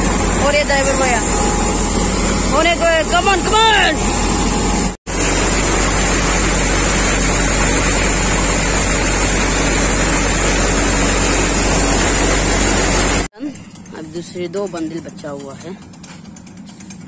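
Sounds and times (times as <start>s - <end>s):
thresher mechanical whir: 0.0s - 17.0s.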